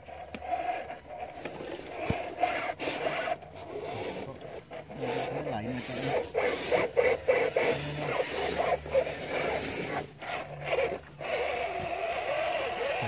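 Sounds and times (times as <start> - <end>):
electric motor whining: 0.0 - 13.0
tyres scraping on rock: 0.0 - 13.0.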